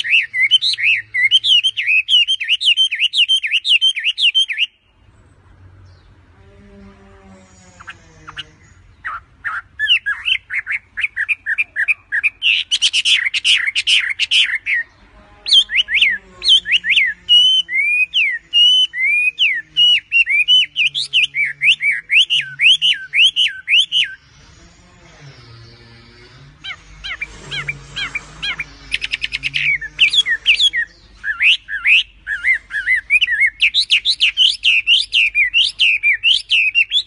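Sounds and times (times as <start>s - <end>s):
bird singing whistled notes: 0.0s - 4.9s, 7.6s - 37.0s.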